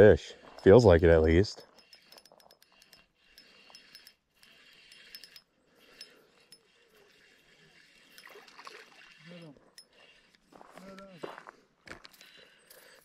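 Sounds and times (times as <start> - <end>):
fishing reel ticking: 0.4 - 11.3, 11.9 - 13.0.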